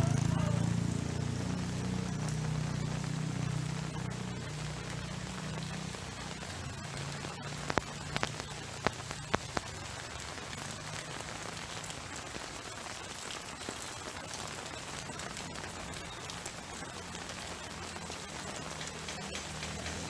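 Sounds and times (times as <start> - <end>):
heavy rain falling: 0.0 - 20.0
large raindrops ticking: 0.0 - 20.0.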